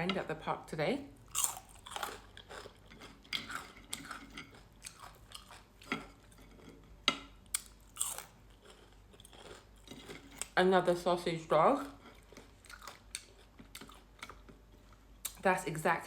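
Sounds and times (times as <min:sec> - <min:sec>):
person chewing crunchy food: 0:01.2 - 0:10.6, 0:11.8 - 0:15.4.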